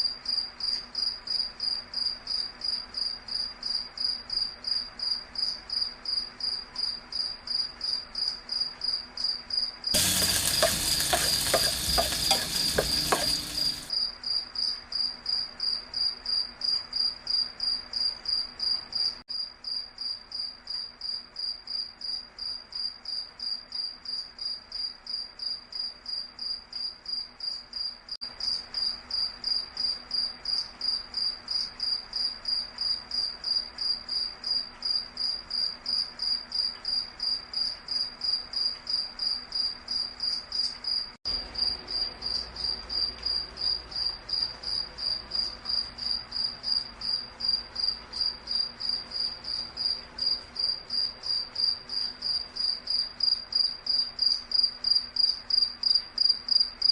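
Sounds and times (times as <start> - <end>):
crickets chirping: 0.2 - 56.9.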